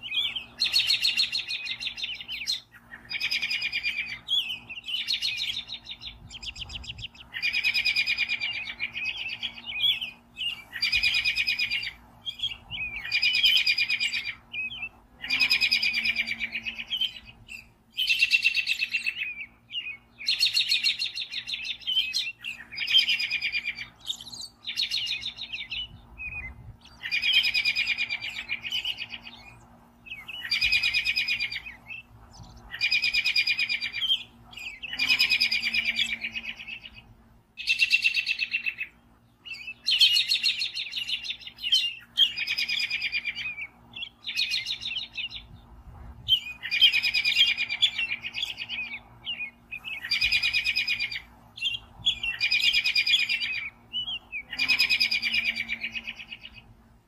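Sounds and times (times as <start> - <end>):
robin singing: 0.0 - 56.9.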